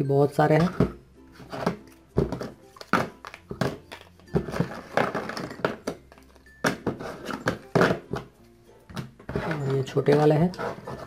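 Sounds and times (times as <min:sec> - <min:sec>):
cards tapping and clacking: 0:00.6 - 0:10.8.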